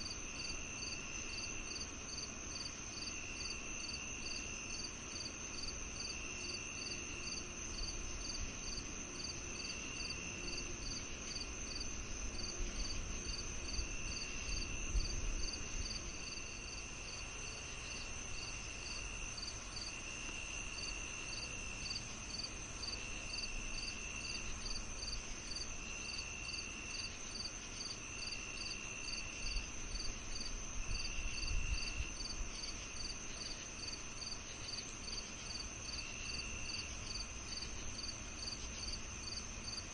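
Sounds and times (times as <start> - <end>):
cricket chirps: 0.0 - 39.9
crickets high drone: 0.0 - 39.9
low cricket trills: 0.0 - 39.9.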